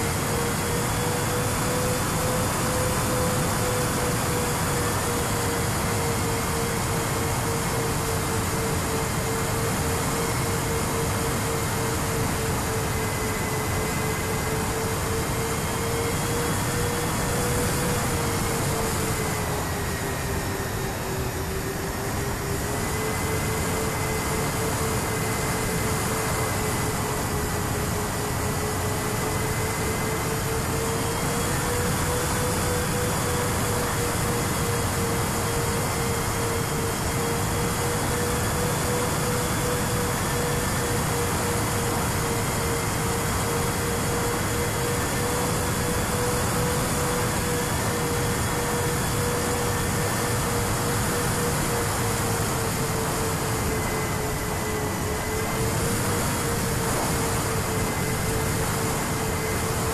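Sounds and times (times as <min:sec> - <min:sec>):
electric motors and propellers whining: 0:00.0 - 0:59.9.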